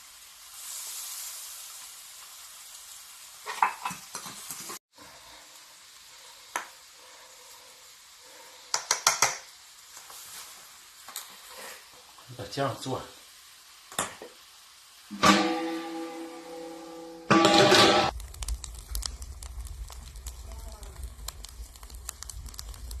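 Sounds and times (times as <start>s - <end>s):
food sizzling in a pot: 0.0s - 23.0s.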